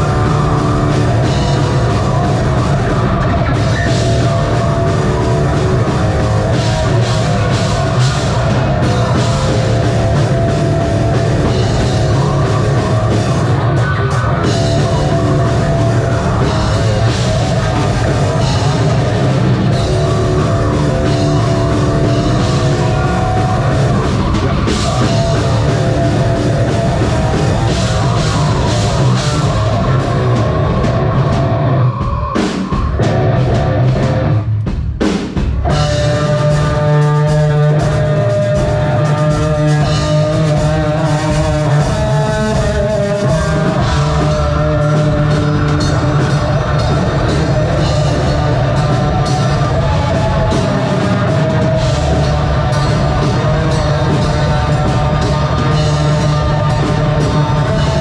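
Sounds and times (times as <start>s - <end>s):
heavy metal band playing: 0.0s - 58.0s
pounding drum kit: 0.0s - 58.0s.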